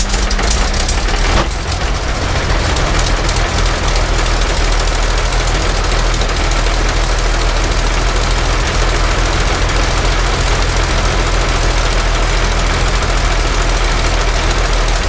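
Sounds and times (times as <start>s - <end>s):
aero engine running rapidly: 0.0s - 15.0s.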